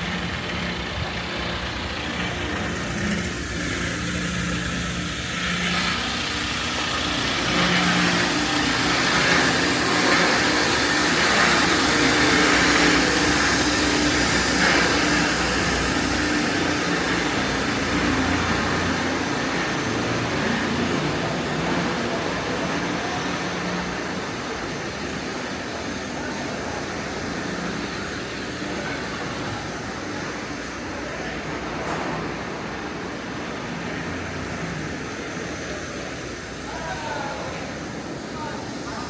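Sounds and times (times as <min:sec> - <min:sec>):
engine running with a hiss: 0:00.0 - 0:39.0.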